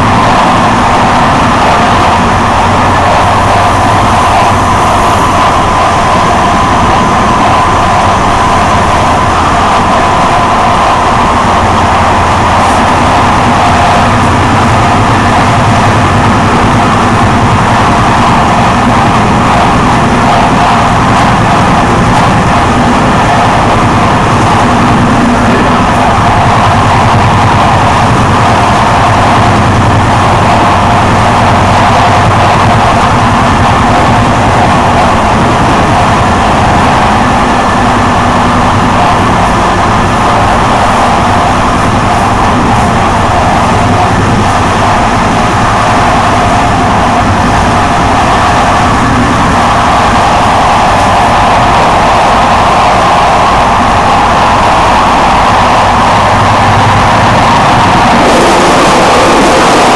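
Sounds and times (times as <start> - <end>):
train running on track: 0.0 - 59.9.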